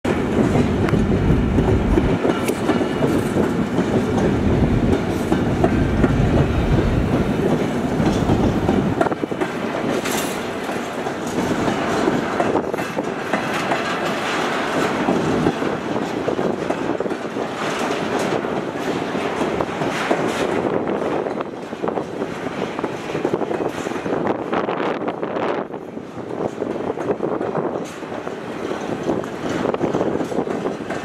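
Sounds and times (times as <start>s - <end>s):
train rumble: 0.0s - 31.0s
train wheels clicking over rail joints: 0.1s - 31.0s.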